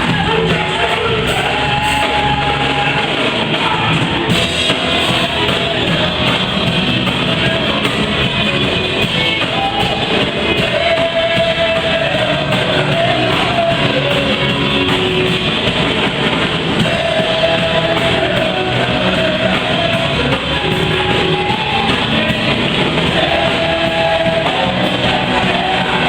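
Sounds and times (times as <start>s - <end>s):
live band playing upbeat song: 0.0s - 26.0s.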